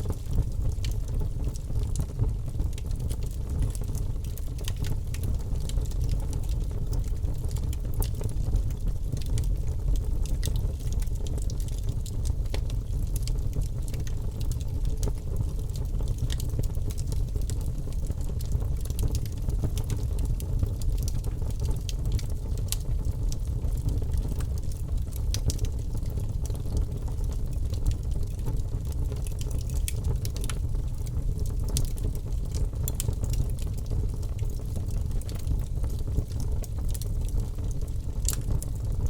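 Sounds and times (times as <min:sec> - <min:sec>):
flames rumbling in fireplace: 0:00.0 - 0:39.0
logs crackling and popping: 0:00.1 - 0:39.0.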